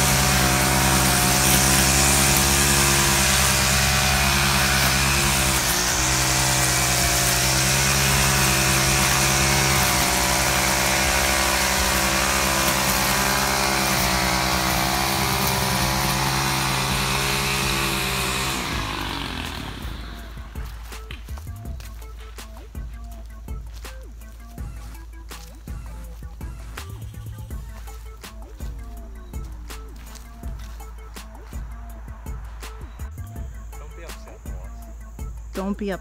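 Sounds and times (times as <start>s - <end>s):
small engine running: 0.0s - 35.6s.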